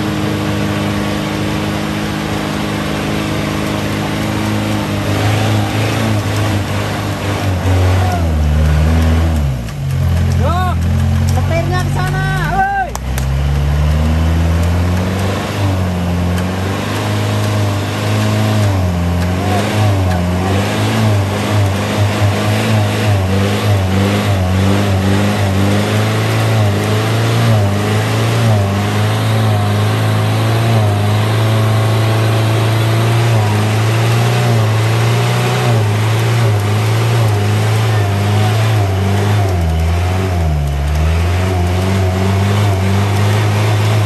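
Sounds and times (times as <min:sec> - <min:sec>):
engine running under load: 0:00.0 - 0:44.0.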